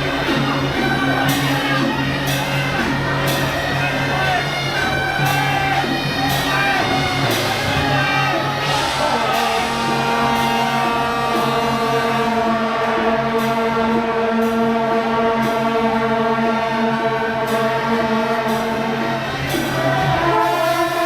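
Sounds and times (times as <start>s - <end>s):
music with long held notes: 0.0s - 21.0s
voices singing: 0.0s - 21.0s.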